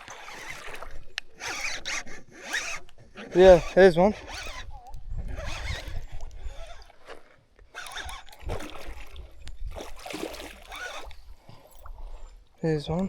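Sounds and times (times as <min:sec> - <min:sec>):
water splashing and sloshing: 0:00.0 - 0:03.7, 0:04.3 - 0:12.6.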